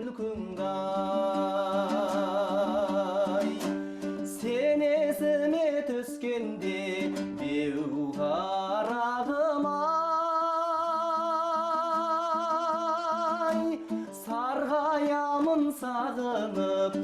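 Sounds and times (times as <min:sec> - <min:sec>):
person singing folk song: 0:00.0 - 0:17.0
plucked string accompaniment: 0:00.0 - 0:17.0.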